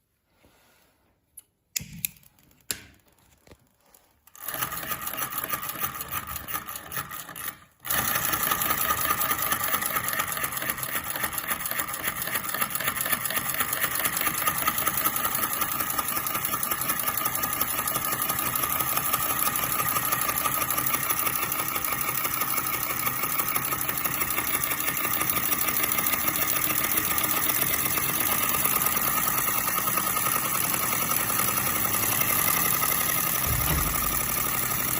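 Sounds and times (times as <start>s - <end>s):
model engine clattering: 4.3s - 34.9s.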